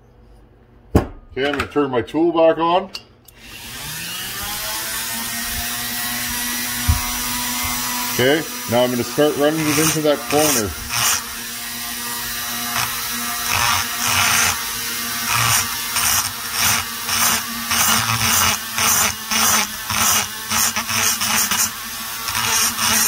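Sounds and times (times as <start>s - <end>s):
rotary tool grinding metal: 3.4s - 23.0s.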